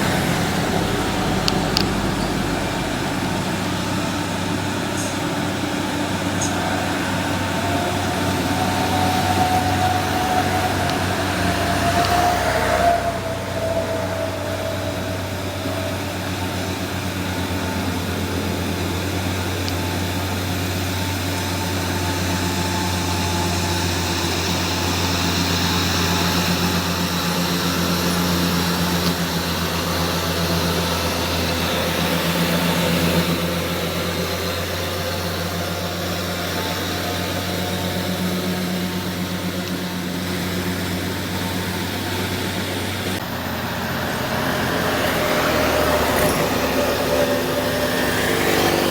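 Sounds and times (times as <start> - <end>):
diesel truck engine droning: 0.0 - 48.9.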